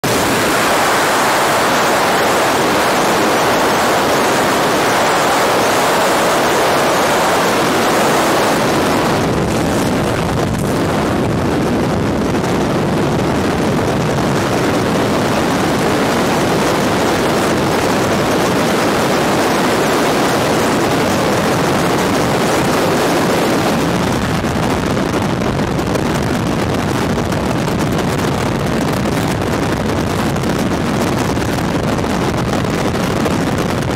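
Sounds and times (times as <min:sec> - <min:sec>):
rushing wind at plane door: 0:00.0 - 0:33.9
wind buffeting microphone: 0:00.0 - 0:33.9.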